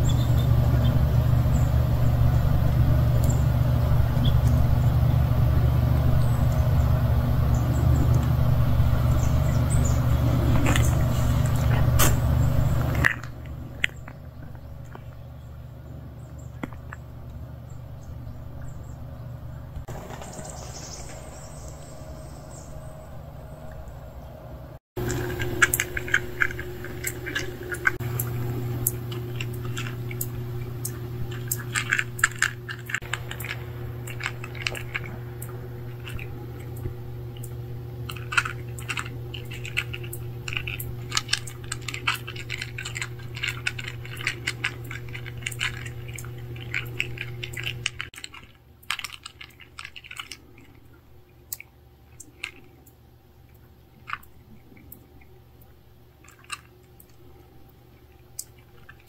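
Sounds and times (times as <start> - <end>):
steady low hum: 0.0 - 59.0
cats crunching dry kibble: 0.6 - 17.5, 25.0 - 59.0.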